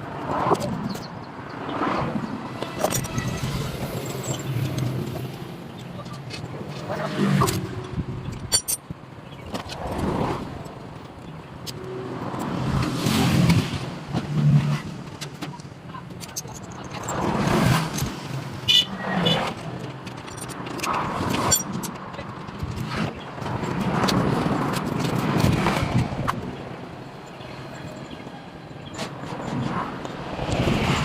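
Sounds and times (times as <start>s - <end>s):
traffic passing: 0.0s - 31.0s.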